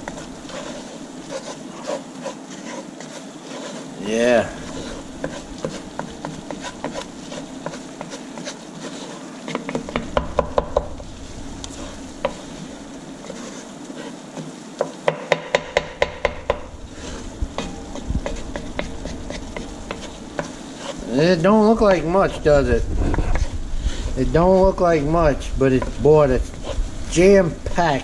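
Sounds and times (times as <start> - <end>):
soft sizzle: 0.0 - 28.0.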